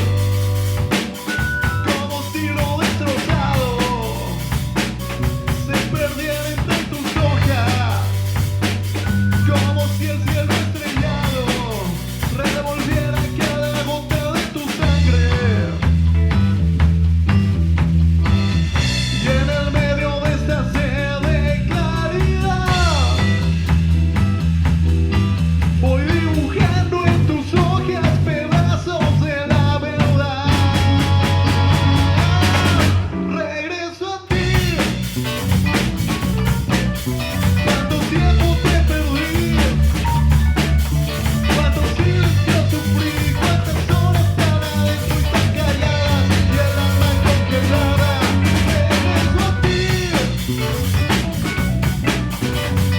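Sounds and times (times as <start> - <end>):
drum kit beat: 0.0 - 33.3, 34.3 - 52.9
rock band playing live: 0.0 - 52.9.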